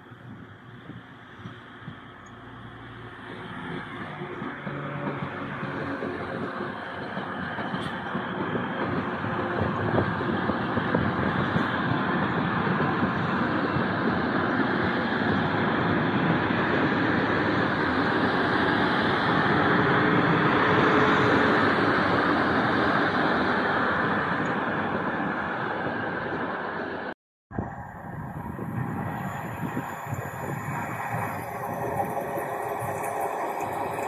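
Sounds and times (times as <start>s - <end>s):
train passing rumble: 0.0s - 34.0s.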